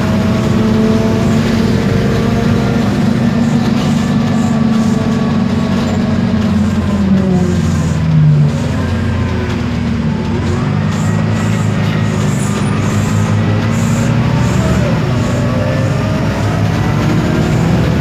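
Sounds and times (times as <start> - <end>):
bus diesel engine running: 0.0 - 18.0
gearbox whine: 0.0 - 18.0.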